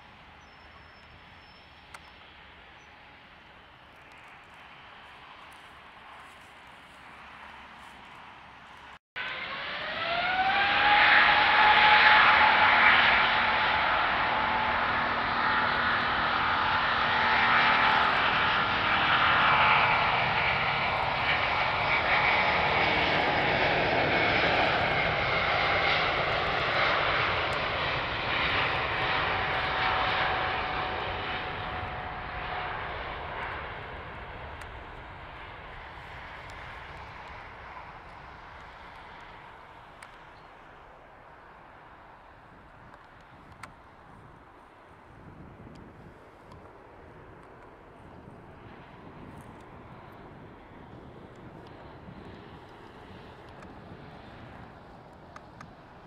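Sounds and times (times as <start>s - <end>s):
jet engine roar with high whine: 0.0s - 56.0s.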